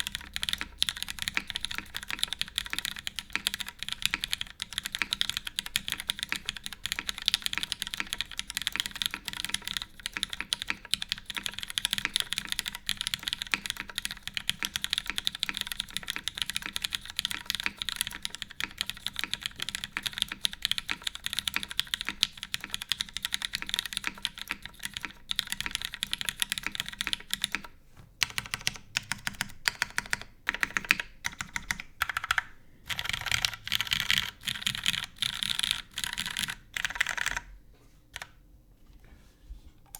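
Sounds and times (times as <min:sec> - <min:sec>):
mechanical keyboard keystroke clacks: 0:00.0 - 0:37.4.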